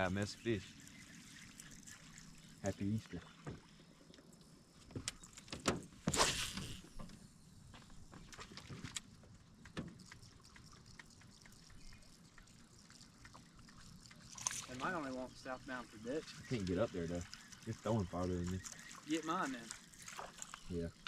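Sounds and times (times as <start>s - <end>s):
water trickling and lapping: 0.0s - 21.0s.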